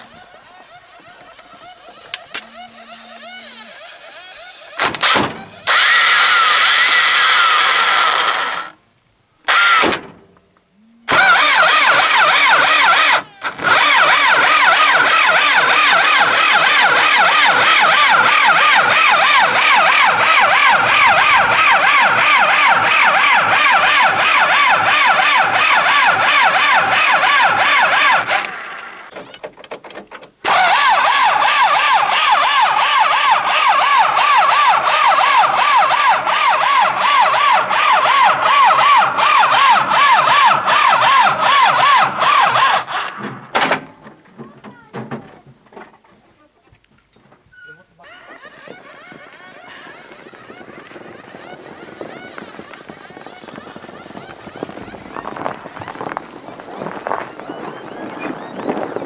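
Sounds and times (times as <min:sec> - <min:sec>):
starter motor cranking diesel engine: 0:00.0 - 0:08.8, 0:09.5 - 0:10.0, 0:11.1 - 0:43.8, 0:47.9 - 0:58.8.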